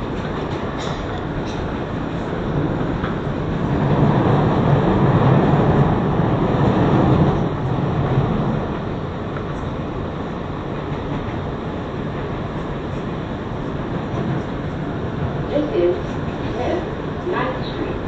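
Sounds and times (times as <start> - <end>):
subway car wheels rumbling on rail: 0.0 - 18.0.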